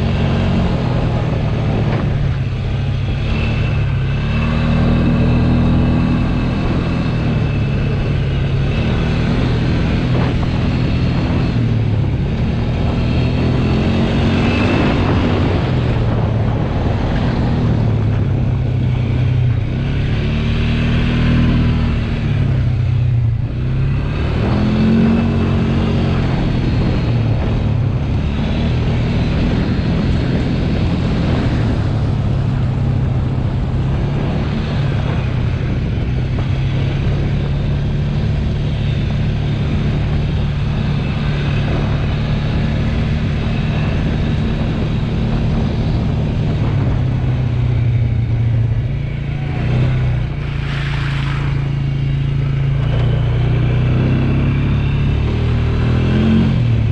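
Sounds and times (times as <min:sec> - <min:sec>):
atv engine revving: 0:00.0 - 0:56.9.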